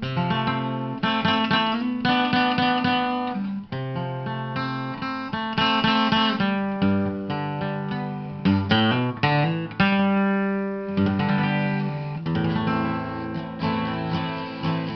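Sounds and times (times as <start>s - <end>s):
acoustic guitar music: 0.0s - 14.9s.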